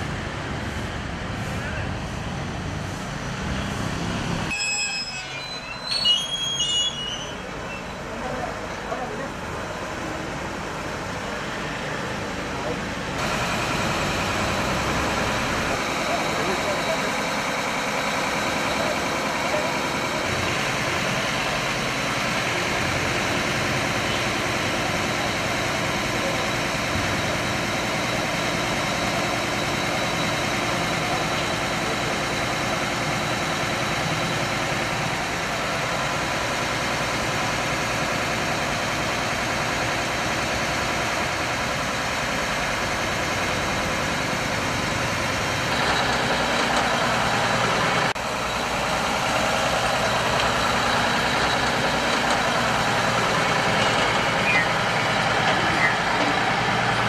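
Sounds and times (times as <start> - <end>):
diesel engine idling: 7.4 - 57.0.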